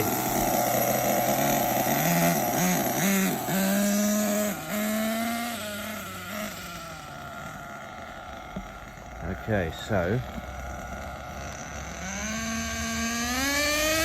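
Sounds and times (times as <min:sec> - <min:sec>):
model engine revving: 0:00.0 - 0:14.0.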